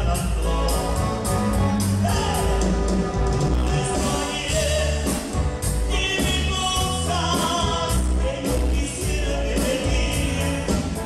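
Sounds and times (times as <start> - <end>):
live dance band playing: 0.0 - 11.0.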